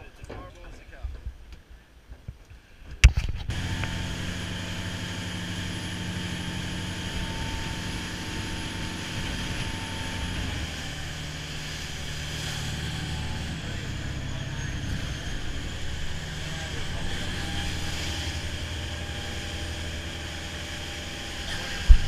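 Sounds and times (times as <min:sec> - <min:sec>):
boat engine drone: 0:03.5 - 0:22.0
water rushing along hull: 0:03.5 - 0:22.0.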